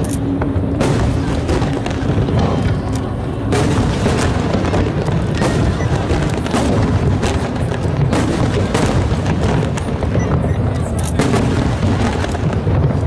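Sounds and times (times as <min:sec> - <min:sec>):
firework crackles: 0:00.0 - 0:13.0
firework shells bursting: 0:00.0 - 0:13.0
low rumble: 0:00.0 - 0:13.0.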